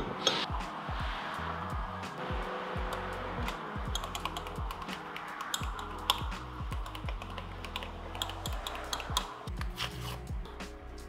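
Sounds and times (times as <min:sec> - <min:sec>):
music with deep bass: 0:00.0 - 0:11.0.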